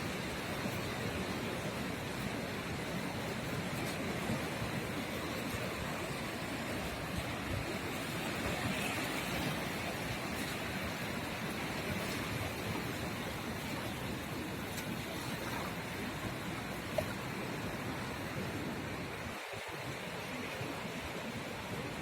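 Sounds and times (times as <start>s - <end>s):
ocean surf washing onto shore: 0.0s - 22.0s.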